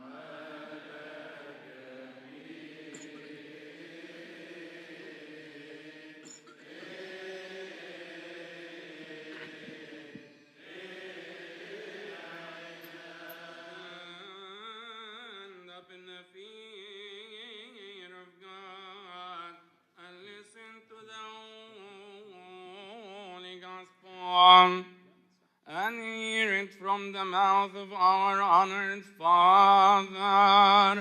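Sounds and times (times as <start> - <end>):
person chanting: 0.0 - 6.0, 6.6 - 25.0, 25.7 - 31.0.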